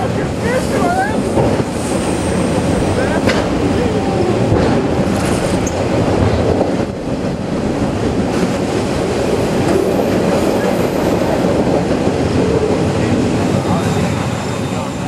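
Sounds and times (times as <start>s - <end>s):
freight train wheels rolling on rail: 0.0s - 15.0s.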